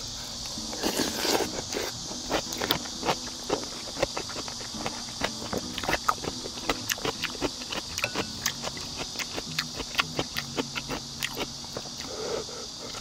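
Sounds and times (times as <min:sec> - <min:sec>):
steady high hiss: 0:00.0 - 0:13.0
person chewing with crisp clicks: 0:00.4 - 0:12.3.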